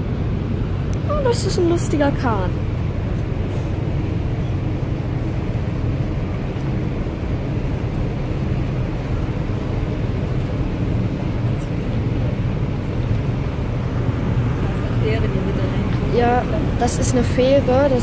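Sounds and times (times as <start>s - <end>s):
ferry engines rumbling: 0.0s - 18.0s.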